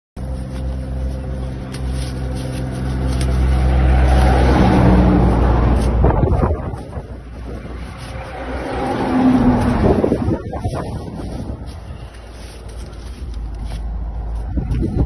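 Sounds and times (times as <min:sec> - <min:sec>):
crackly rustle: 0:00.2 - 0:15.0
vehicle engine idling: 0:00.2 - 0:15.0.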